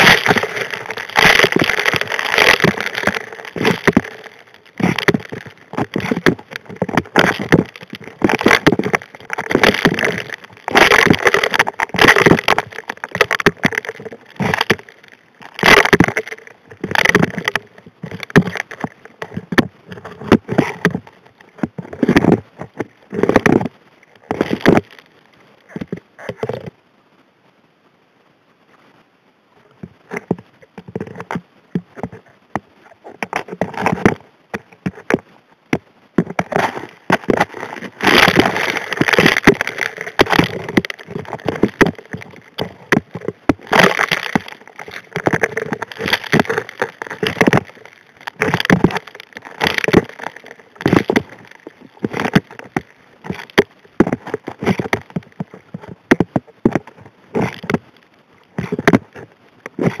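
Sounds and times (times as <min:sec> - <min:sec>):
rocks clattering against metal nozzle underwater: 0:00.0 - 0:23.7, 0:33.1 - 0:57.9, 0:58.5 - 1:00.0.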